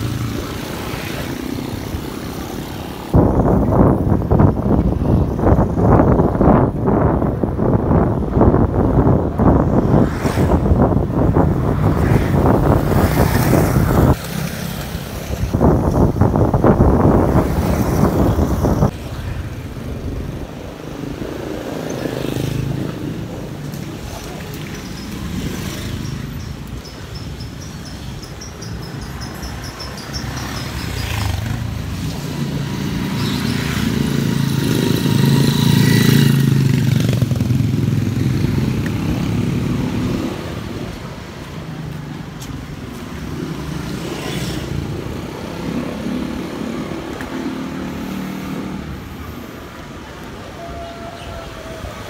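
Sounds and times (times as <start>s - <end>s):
motorcycles passing: 0.0s - 52.0s.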